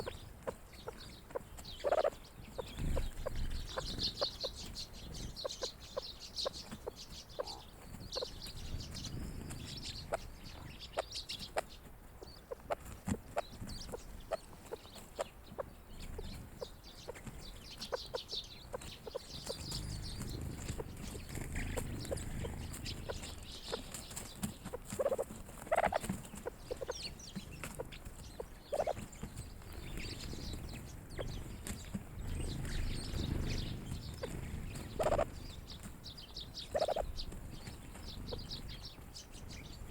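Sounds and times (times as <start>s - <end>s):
high chirping: 0.0s - 12.8s, 13.4s - 39.7s.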